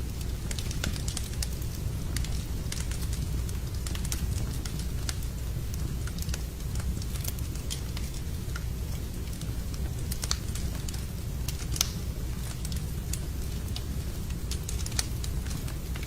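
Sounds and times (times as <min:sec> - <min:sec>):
low rumble of fire flames: 0:00.0 - 0:16.0
wood fire crackles and pops: 0:00.0 - 0:16.0.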